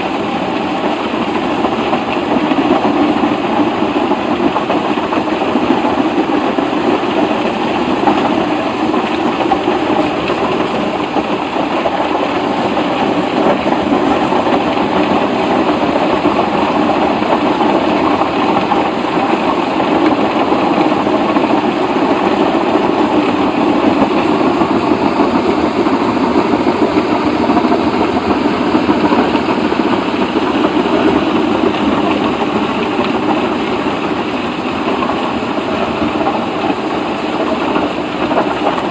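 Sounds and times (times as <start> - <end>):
machine engine running: 0.0 - 38.9.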